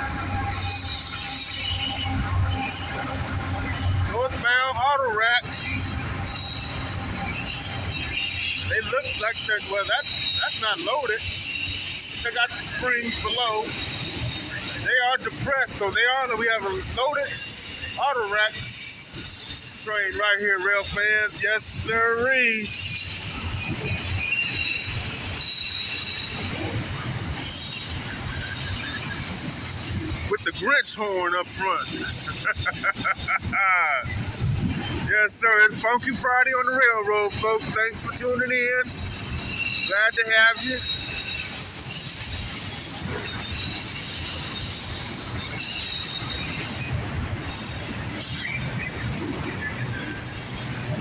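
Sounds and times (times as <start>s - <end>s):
high-pitched wheel squeal: 0.0s - 4.3s, 5.4s - 36.0s, 36.7s - 51.0s
train wheels rumbling on rails: 0.0s - 51.0s.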